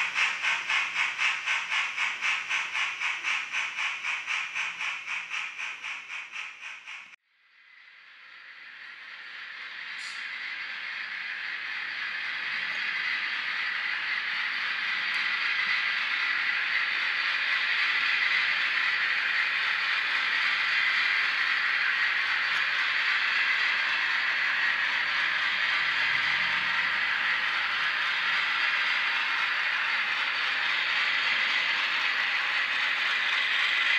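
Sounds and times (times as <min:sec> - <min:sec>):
model train rattling along track: 0:00.0 - 0:07.2, 0:08.0 - 0:33.9.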